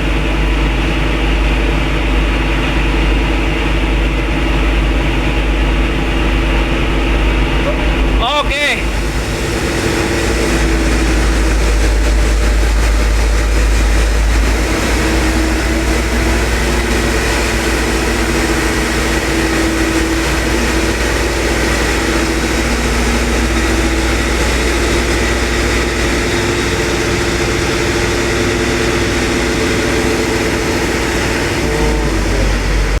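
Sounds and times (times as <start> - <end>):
excavator diesel engine rumbling: 0.0 - 33.0.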